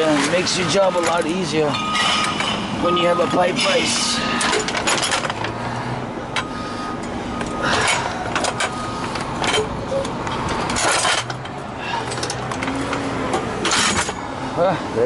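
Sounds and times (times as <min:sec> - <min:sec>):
metallic knocks and clanks: 0:00.0 - 0:05.6, 0:07.4 - 0:14.3
street noise: 0:00.0 - 0:15.0.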